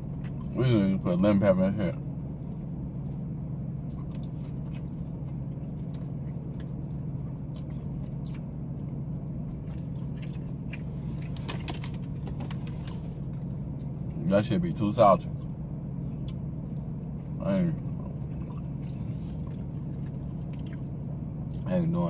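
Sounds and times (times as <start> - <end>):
man chewing crunchy food: 0.0 - 0.6, 2.1 - 14.2, 15.2 - 21.7
steady low hum: 0.0 - 22.0.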